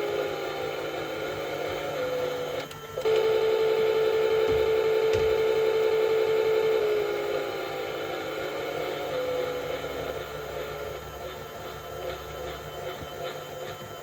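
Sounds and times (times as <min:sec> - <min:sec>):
washing machine motor whine: 0:00.0 - 0:14.0.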